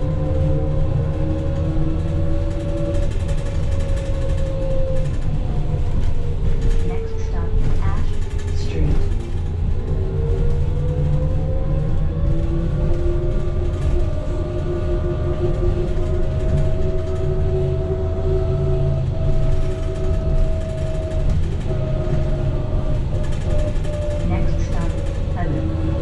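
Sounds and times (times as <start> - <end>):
road noise rumble: 0.0 - 26.0.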